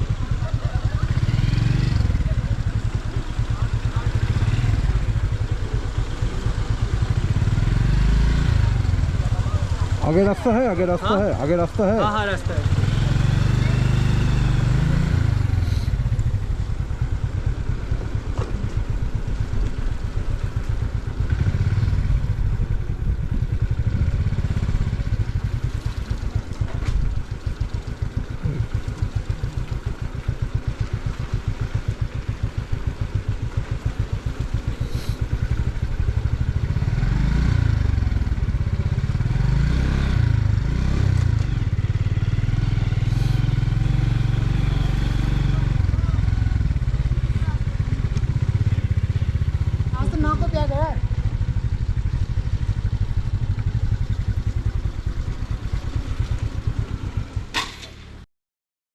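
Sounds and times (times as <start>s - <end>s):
motorcycle engine running: 0.0s - 58.2s.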